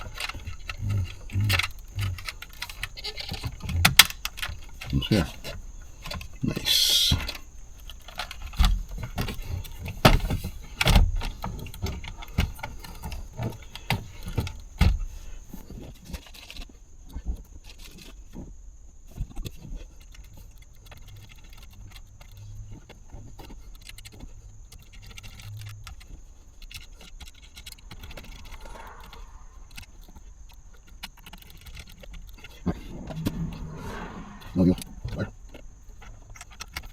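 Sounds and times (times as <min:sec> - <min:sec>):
plastic parts clicking and rattling: 0:00.0 - 0:16.7, 0:19.2 - 0:32.6, 0:35.9 - 0:36.9.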